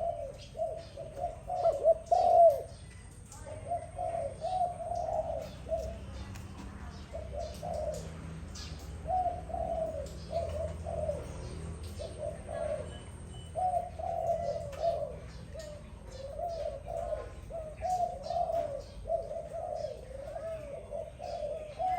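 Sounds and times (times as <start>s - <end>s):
dove cooing: 0.0s - 21.9s.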